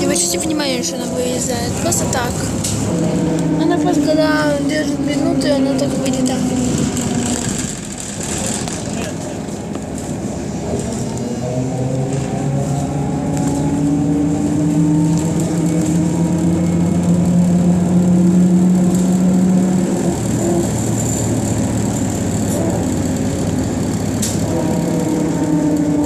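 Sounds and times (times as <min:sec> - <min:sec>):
electric traction drive whine: 0:00.0 - 0:26.0
rumble of the ride: 0:00.0 - 0:26.0.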